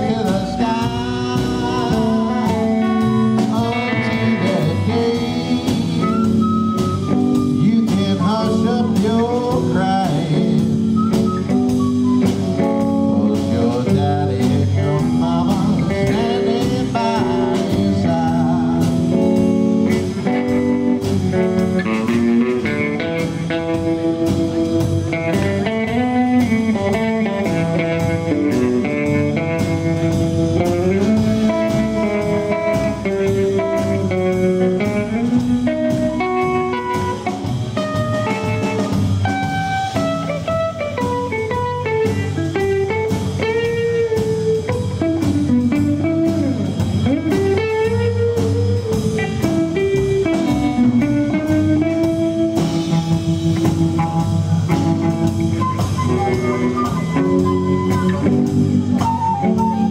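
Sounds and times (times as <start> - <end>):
blues song with singing and guitar: 0.0 - 59.9
drum beat: 0.0 - 59.9.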